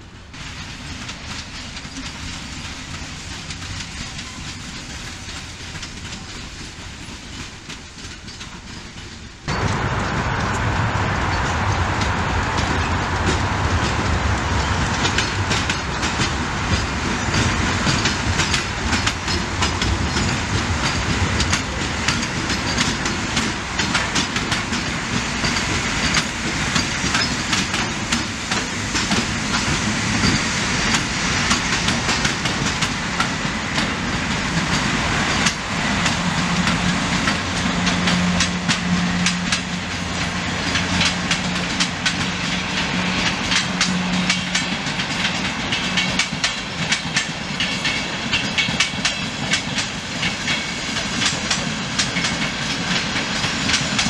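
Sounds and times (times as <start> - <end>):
train rail rumble: 0.0 - 54.0
wheels clacking over rail joints: 0.3 - 54.0.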